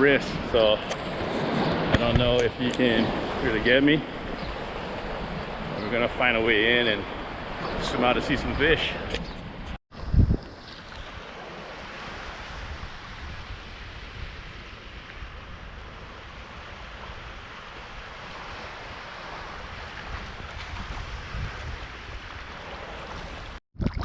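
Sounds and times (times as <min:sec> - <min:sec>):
ocean surf washing on shore: 0:00.0 - 0:09.1, 0:10.0 - 0:23.6
wind gusting on microphone: 0:00.0 - 0:23.6.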